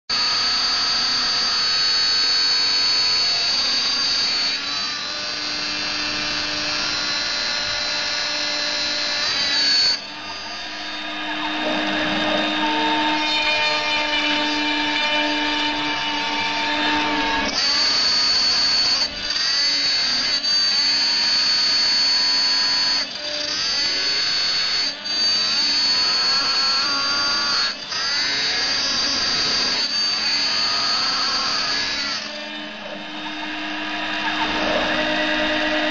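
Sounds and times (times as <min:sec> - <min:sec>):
spindle motor whining: 0:00.1 - 0:35.9
stepper motors whining: 0:00.1 - 0:35.9.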